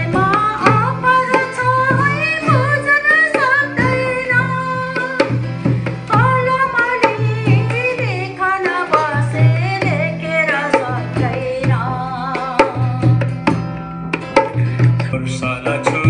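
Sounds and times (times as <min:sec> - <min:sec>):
hand drum rhythm: 0:00.0 - 0:16.0.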